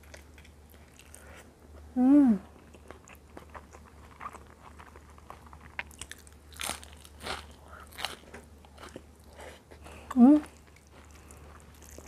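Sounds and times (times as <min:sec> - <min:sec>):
person chewing: 0:00.0 - 0:01.9, 0:02.5 - 0:12.0.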